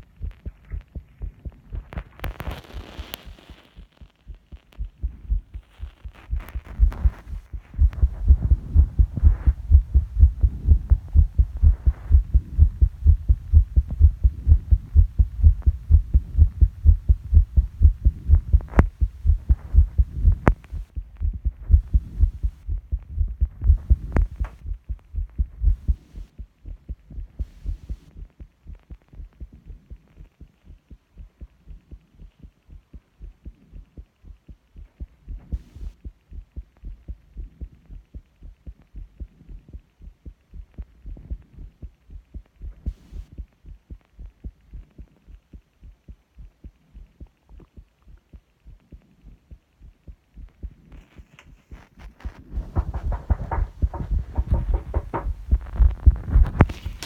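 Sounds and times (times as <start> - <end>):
heartbeat thuds: 0.0 - 57.0.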